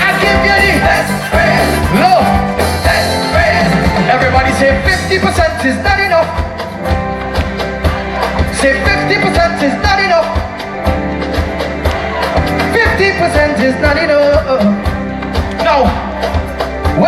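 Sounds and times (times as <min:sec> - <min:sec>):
live band with singing: 0:00.0 - 0:17.0
loud bass line: 0:00.0 - 0:17.0.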